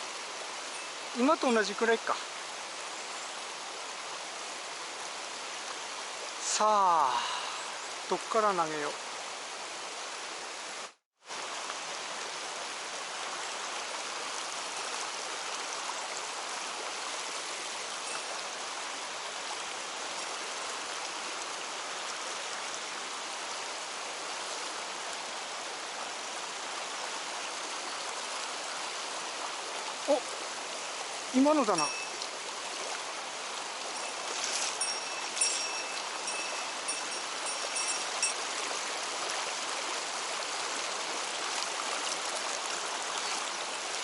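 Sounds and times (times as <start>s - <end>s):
stream water rushing over rocks: 0.0s - 44.0s.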